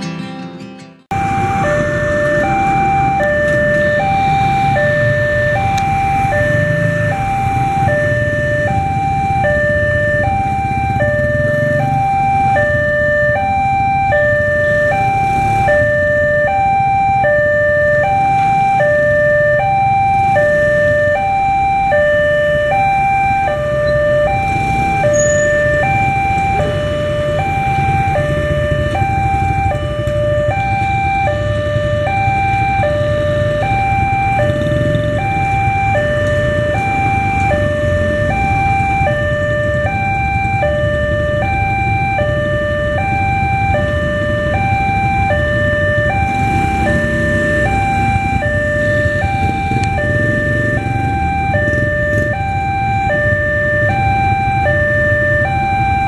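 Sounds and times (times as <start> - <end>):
motorcycles running: 0.0 - 56.0
level-crossing two-tone alarm: 1.1 - 56.0.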